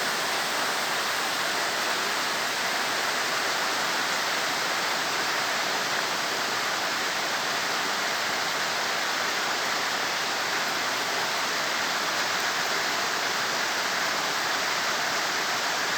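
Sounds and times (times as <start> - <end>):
steady rain falling: 0.0 - 15.9.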